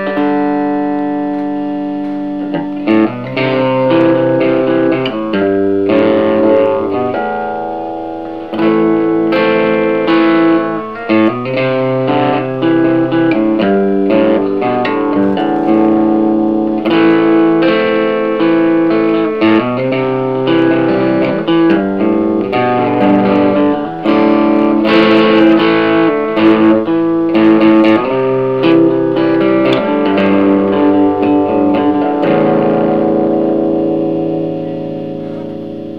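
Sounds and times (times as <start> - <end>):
solo guitar playing: 0.0 - 35.9.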